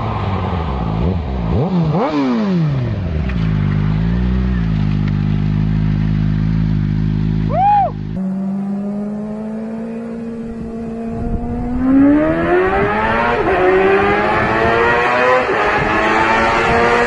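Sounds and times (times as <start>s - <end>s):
engine idling and revving: 0.0s - 17.0s.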